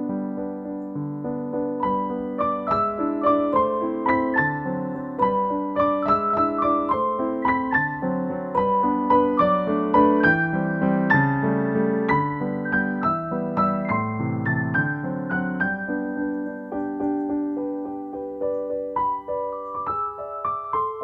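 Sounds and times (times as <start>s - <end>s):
soft piano music: 0.0s - 21.0s.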